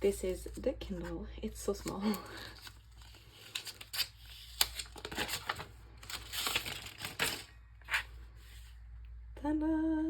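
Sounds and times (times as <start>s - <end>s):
cardboard and plastic rustling: 0.0s - 8.8s.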